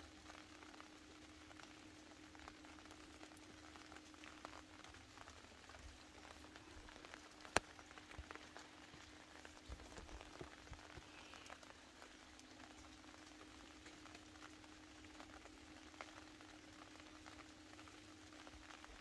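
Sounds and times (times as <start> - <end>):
faint steady hum: 0.0 - 19.0
light rain on leaves: 0.0 - 19.0.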